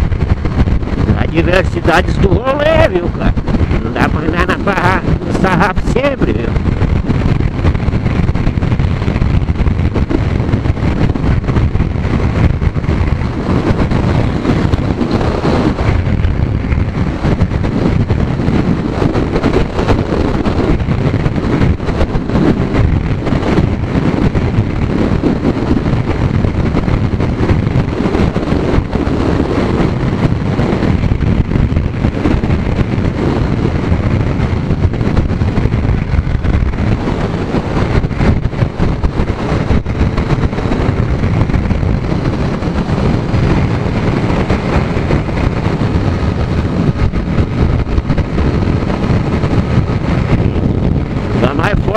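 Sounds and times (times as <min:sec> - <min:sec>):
motorcycle engine running: 0:00.0 - 0:51.9
wind buffeting microphone: 0:00.0 - 0:51.9.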